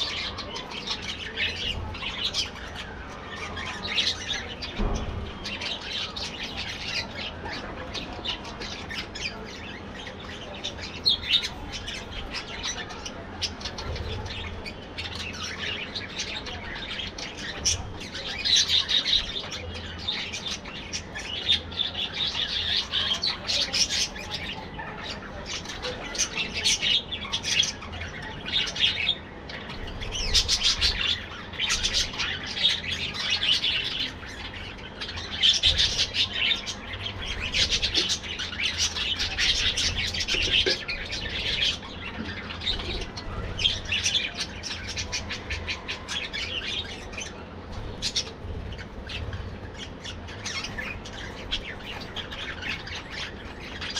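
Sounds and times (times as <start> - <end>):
budgerigars chattering and chirping: 0.0 - 53.9.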